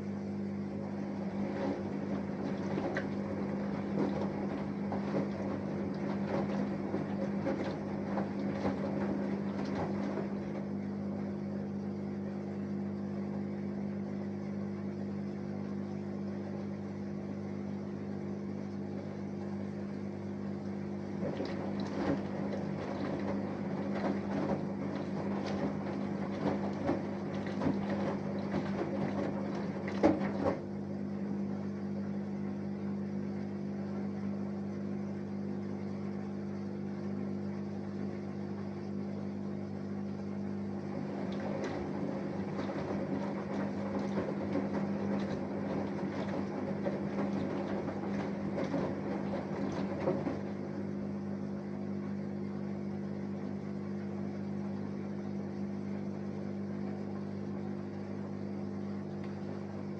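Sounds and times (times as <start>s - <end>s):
laundry and water sloshing: 0.0s - 32.3s, 34.8s - 59.9s
washing machine hum: 0.0s - 59.9s.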